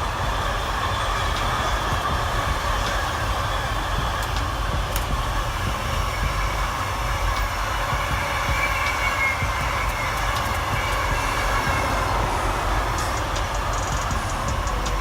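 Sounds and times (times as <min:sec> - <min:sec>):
high wheel squeal: 0:00.0 - 0:15.0
train wheels rumbling on track: 0:00.0 - 0:15.0.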